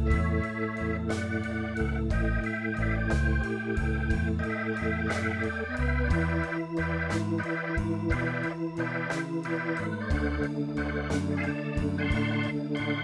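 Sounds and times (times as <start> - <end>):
bass notes: 0.0 - 13.0
organ: 0.0 - 13.0.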